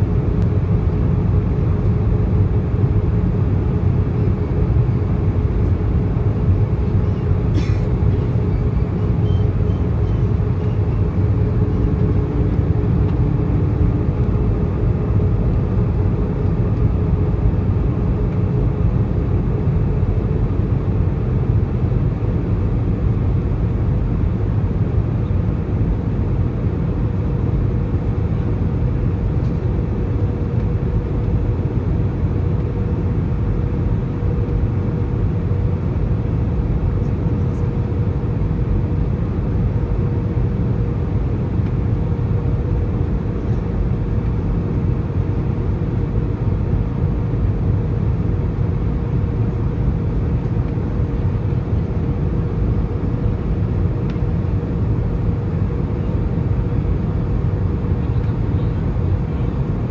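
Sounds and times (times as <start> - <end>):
aircraft cabin engine roar: 0.0 - 59.9
constant mid-pitched hum: 0.0 - 59.9.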